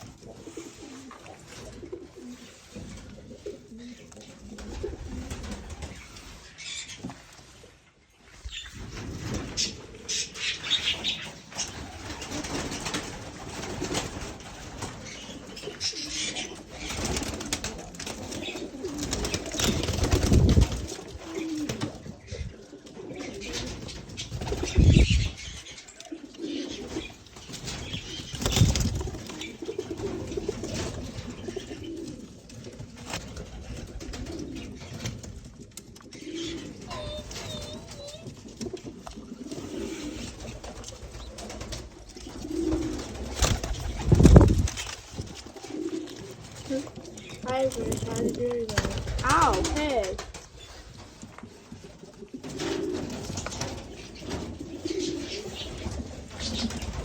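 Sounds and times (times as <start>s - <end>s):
pigeons cooing: 0.0s - 57.0s
wings flapping: 4.4s - 7.4s, 8.5s - 57.0s.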